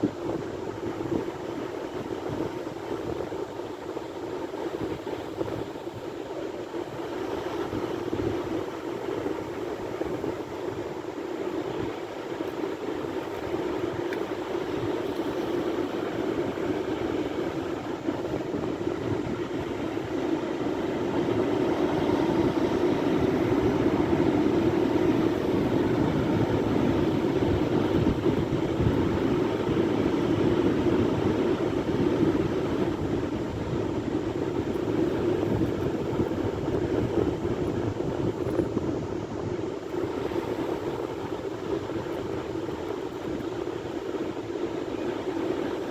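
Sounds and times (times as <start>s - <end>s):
surf roaring: 0.0s - 45.9s.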